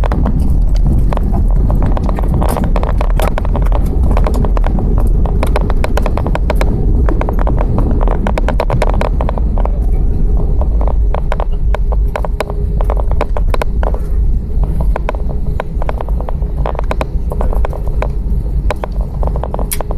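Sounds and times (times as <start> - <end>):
clicks and rattles: 0.0 - 19.9
low cabin rumble: 0.0 - 19.9
steady hum: 0.0 - 19.9.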